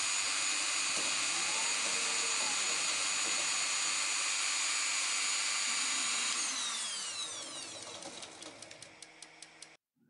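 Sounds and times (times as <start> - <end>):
rotary tool whining: 0.0 - 9.8.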